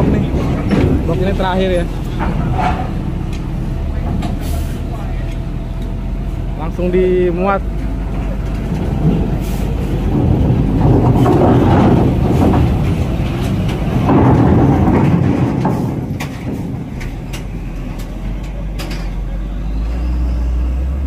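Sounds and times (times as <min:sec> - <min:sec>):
truck engine running: 0:00.0 - 0:21.0
tyres rumbling over steel ramp: 0:00.0 - 0:21.0.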